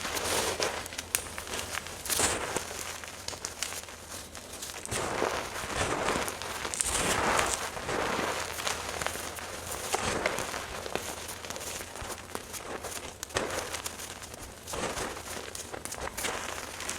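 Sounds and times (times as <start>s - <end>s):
chalk being crushed: 0.0s - 16.9s.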